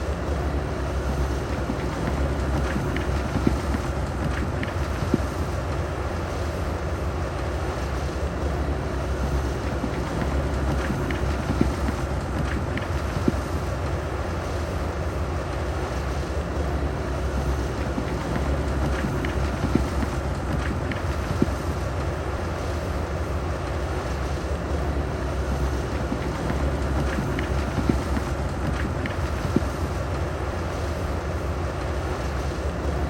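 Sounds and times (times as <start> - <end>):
heavy diesel machinery rumbling: 0.0 - 33.0.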